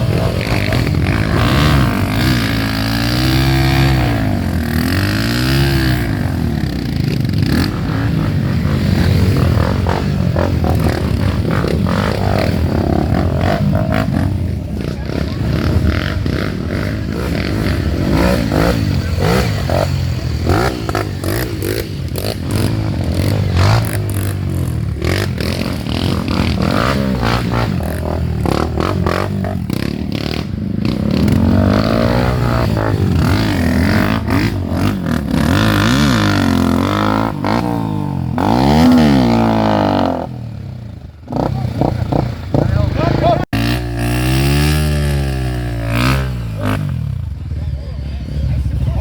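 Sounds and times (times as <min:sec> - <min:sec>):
dirt bike engines revving: 0:00.0 - 0:49.0.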